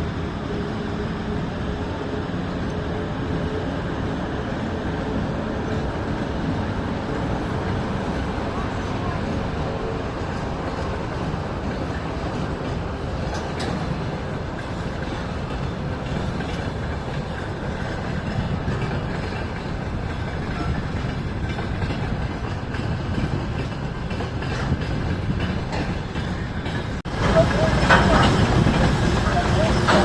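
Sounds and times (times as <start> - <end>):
train rumbling on rails: 0.0 - 30.0
wheels clicking over rail joints: 5.3 - 30.0.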